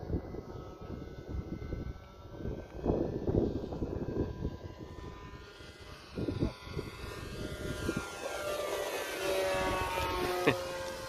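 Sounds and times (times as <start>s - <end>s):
model plane motor whine: 0.0s - 11.0s.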